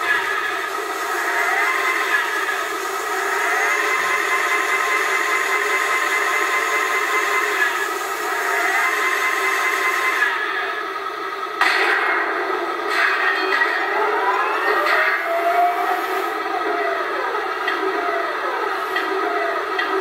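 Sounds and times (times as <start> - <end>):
simulated tank engine through speaker: 0.0 - 20.0.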